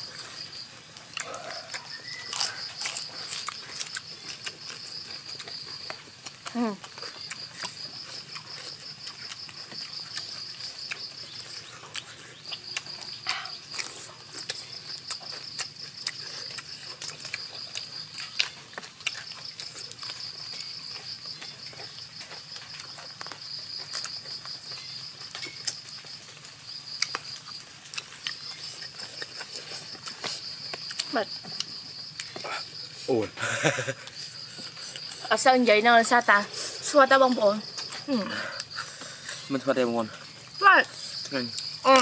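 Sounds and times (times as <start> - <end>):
close-up chewing: 0.0 - 35.4, 36.3 - 42.0
high insect trill: 0.0 - 42.0.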